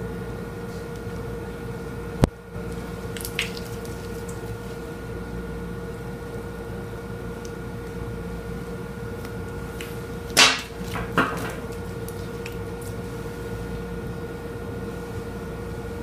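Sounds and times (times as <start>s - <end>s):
electrical equipment hum: 0.0s - 16.0s.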